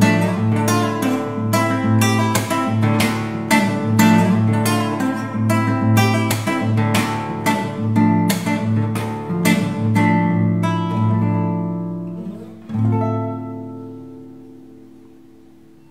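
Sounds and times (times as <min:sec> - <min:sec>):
classical guitar fingerstyle: 0:00.0 - 0:15.9.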